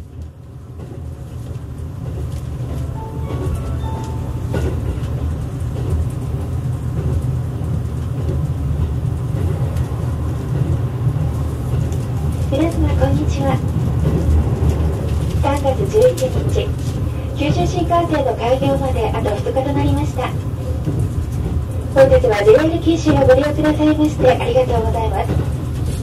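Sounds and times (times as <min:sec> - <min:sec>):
train cabin rumble: 0:00.0 - 0:26.0.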